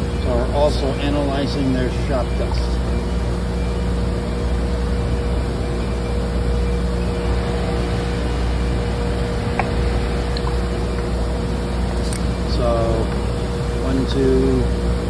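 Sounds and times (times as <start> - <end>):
shop machinery humming: 0.0 - 15.0.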